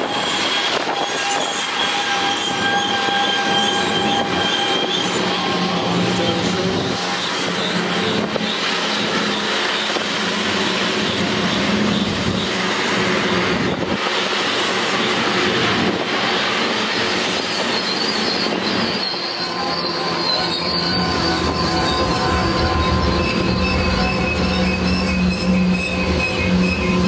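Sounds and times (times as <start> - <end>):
steel train wheels on rails: 0.0 - 27.0
train clanks: 0.0 - 27.0.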